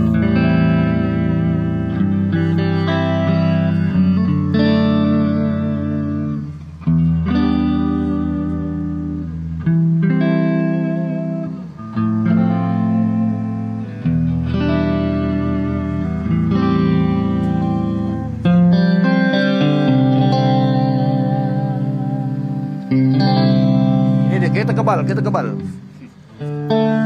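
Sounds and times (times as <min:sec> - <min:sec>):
electric guitar with effects: 0:00.0 - 0:27.0.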